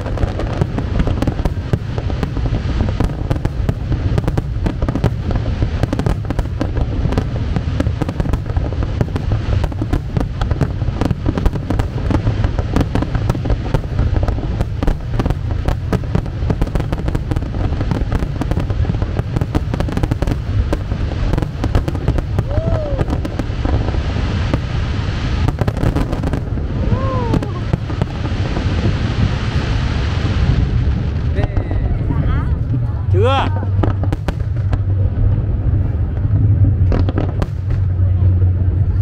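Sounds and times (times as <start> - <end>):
fireworks bangs and crackles: 0.0 - 39.0
low rumble: 0.0 - 39.0.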